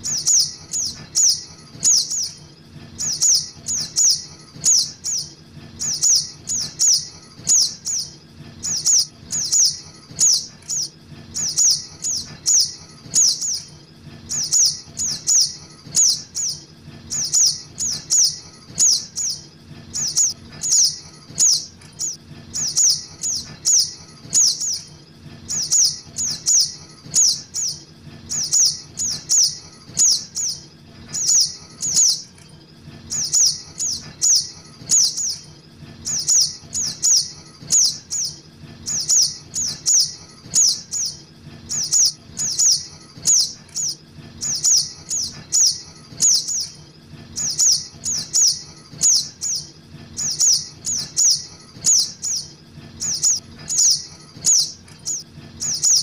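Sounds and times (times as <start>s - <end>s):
bird chick chirping: 0.0s - 2.4s, 3.0s - 13.7s, 14.3s - 24.9s, 25.5s - 32.3s, 33.1s - 46.8s, 47.4s - 56.0s.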